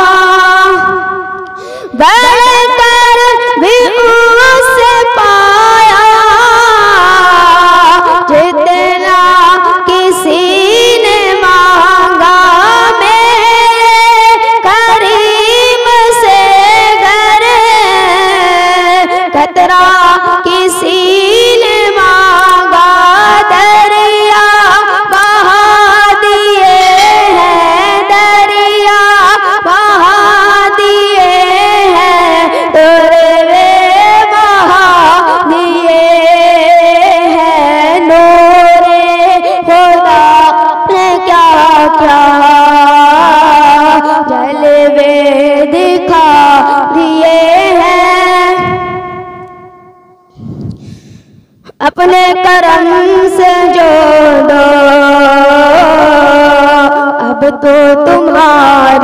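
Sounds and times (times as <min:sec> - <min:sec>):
boy singing into microphone: 0:00.0 - 0:59.0.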